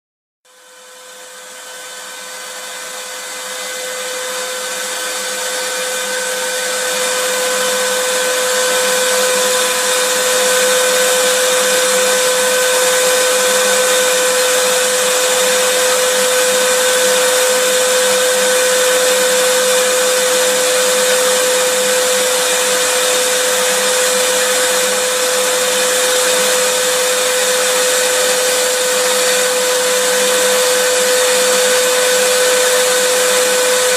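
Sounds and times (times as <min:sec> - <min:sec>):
vacuum cleaner running: 0:00.5 - 0:33.9.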